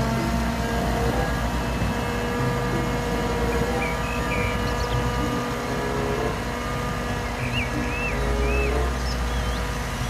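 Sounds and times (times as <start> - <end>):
diesel truck engine rumbling: 0.0 - 10.0.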